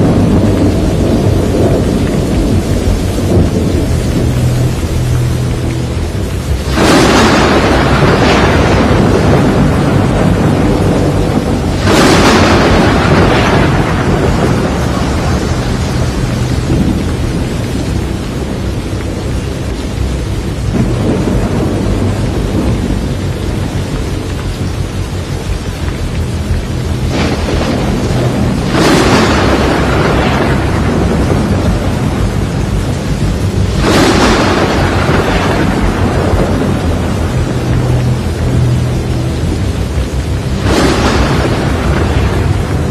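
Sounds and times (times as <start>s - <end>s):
thunderclaps: 0.0s - 42.9s
wind and rain roar: 0.0s - 42.9s.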